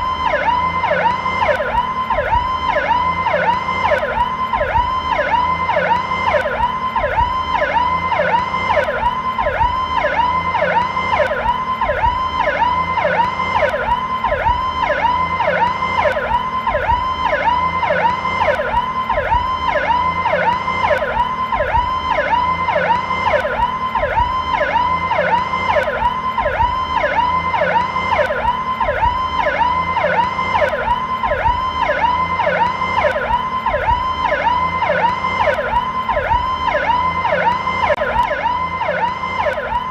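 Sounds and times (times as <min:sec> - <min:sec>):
police siren warbling: 0:00.0 - 0:39.9.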